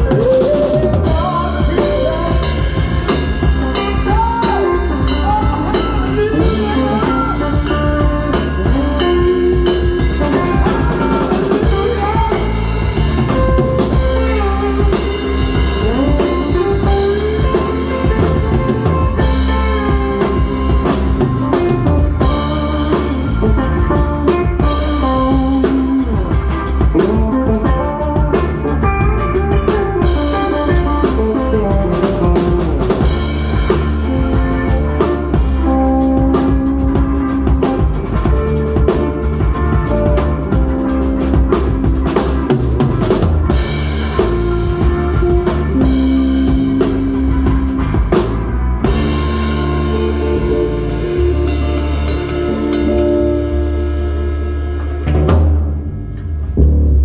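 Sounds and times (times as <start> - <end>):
lead electric guitar bending notes: 0.0 - 56.6
bass guitar: 0.0 - 57.0
drum kit beat with cymbals: 0.0 - 57.0.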